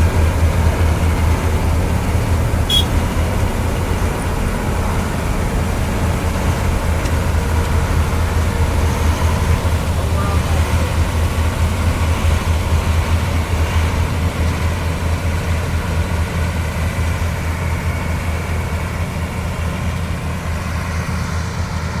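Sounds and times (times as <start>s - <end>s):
combine harvester engine humming: 0.0s - 22.0s.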